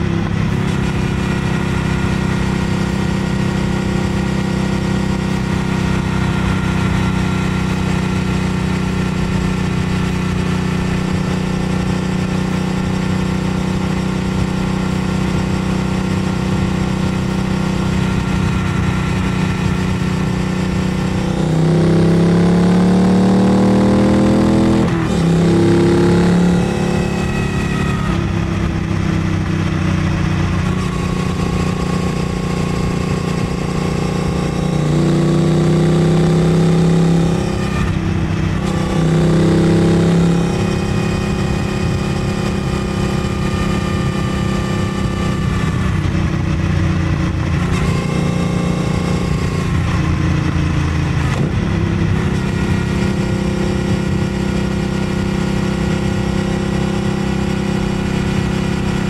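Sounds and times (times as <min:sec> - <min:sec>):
motorcycle engine running and accelerating: 0:00.0 - 0:59.0.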